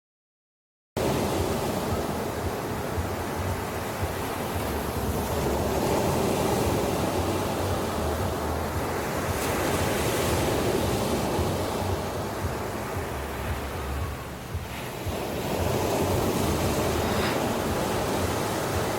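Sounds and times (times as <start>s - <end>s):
ocean surf breaking on beach: 1.0s - 18.9s.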